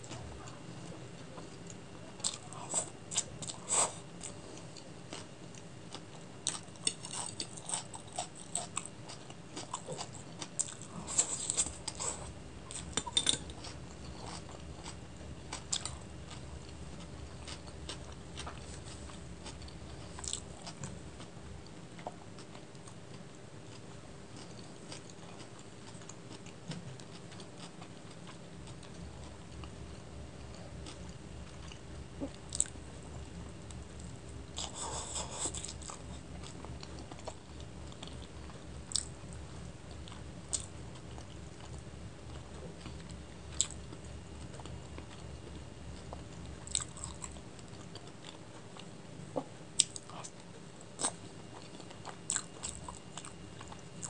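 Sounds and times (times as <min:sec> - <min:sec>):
person chewing noodles: 0:00.0 - 0:54.0.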